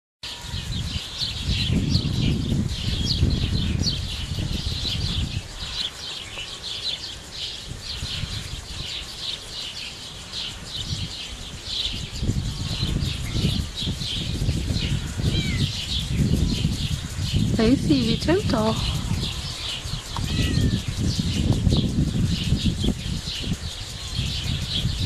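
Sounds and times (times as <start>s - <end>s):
small birds chirping: 0.2s - 25.0s.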